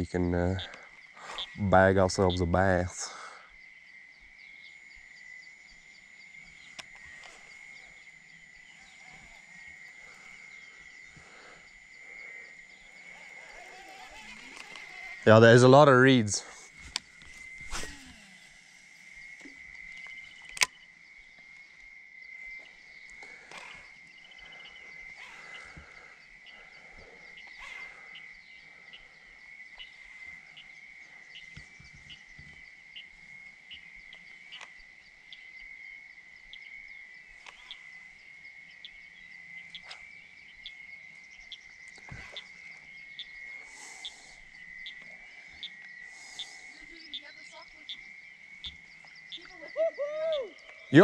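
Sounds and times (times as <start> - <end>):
frog clicking calls: 0.0 - 51.0
frogs trilling: 0.0 - 51.0.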